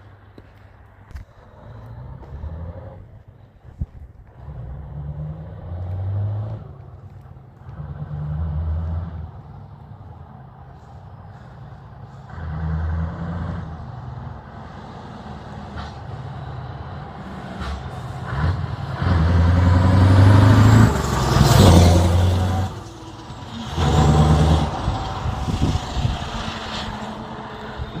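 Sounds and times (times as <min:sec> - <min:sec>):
diesel engine revving: 0:01.4 - 0:03.2, 0:04.2 - 0:10.2, 0:10.8 - 0:28.0.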